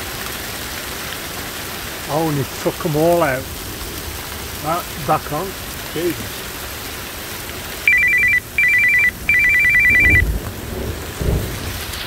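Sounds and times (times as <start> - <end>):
rain hissing: 0.0 - 12.0.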